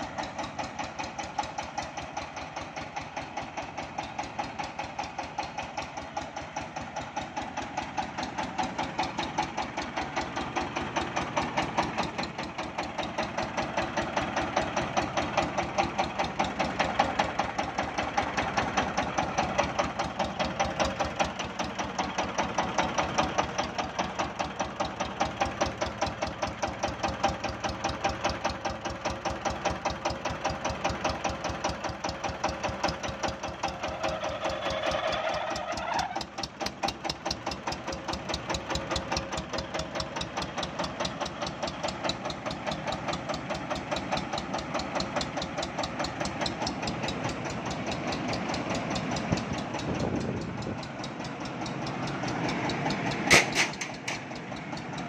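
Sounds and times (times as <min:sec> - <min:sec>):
diesel engine knocking steadily: 0:00.0 - 0:55.0.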